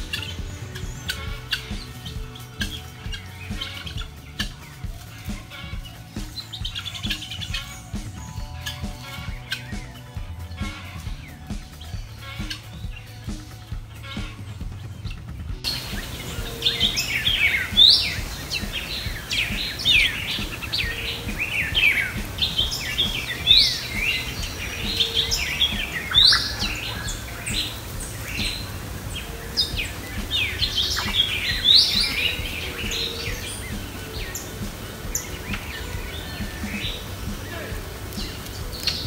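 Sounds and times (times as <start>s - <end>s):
birds chirping and calling: 0.0s - 39.0s.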